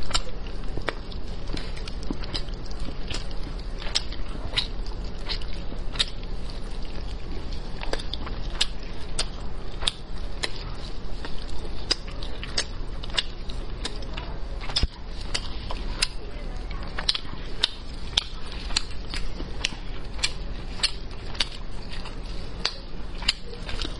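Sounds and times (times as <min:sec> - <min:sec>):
sharp clicks of meat tearing: 0:00.0 - 0:16.2, 0:16.9 - 0:23.9
low steady hum: 0:00.0 - 0:23.9.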